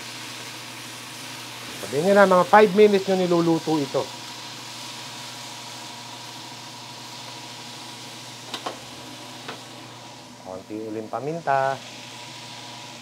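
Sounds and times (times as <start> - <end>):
food sizzling in broth: 0.0 - 13.0.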